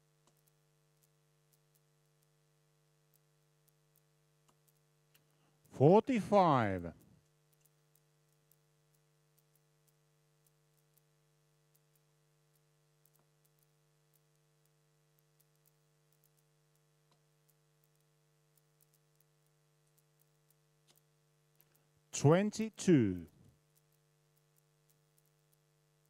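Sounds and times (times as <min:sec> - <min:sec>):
faint ticks: 0:00.0 - 0:05.7, 0:07.0 - 0:22.0, 0:23.3 - 0:26.0
low electrical hum: 0:00.0 - 0:26.0.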